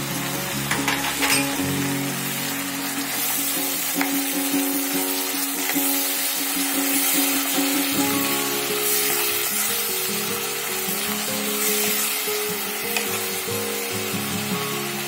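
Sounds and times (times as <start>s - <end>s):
onion sizzling in hot oil: 0.0s - 15.0s
soft background music: 0.0s - 15.0s.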